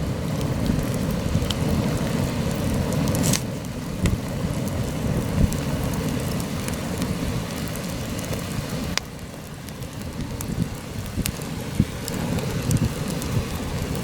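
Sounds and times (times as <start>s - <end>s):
campfire crackling and popping: 0.0s - 14.0s
wind buffeting microphone: 0.0s - 14.0s.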